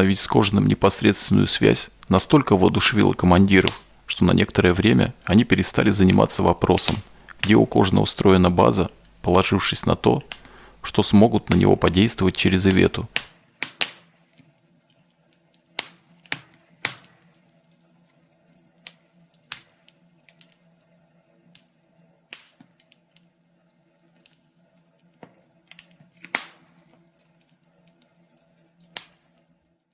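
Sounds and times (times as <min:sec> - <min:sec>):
faint steady hum: 0:00.0 - 0:29.9
wood fire crackling: 0:00.0 - 0:29.9.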